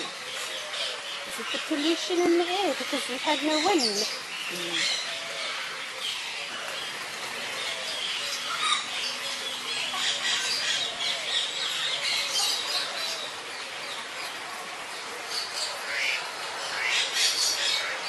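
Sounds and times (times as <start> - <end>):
birds chirping and squawking: 0.0 - 18.0.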